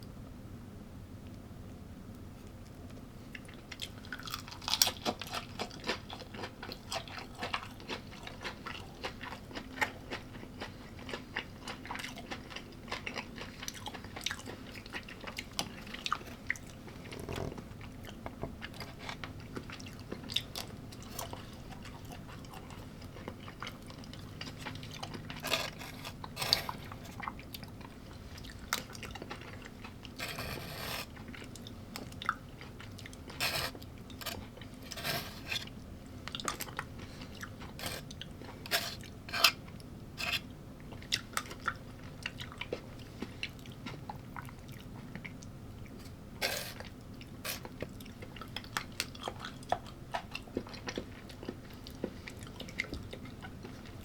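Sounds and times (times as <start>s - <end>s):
person chewing crunchy food: 3.3s - 54.0s.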